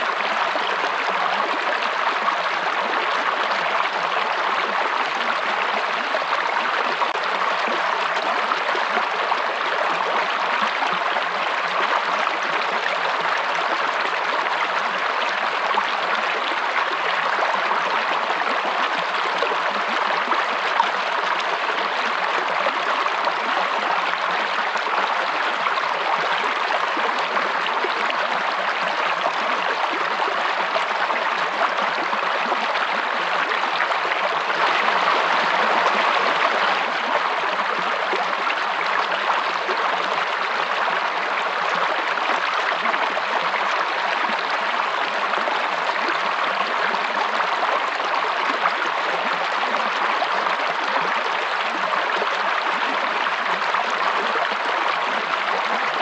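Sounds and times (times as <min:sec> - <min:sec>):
water running in a stream: 0:00.0 - 0:56.0.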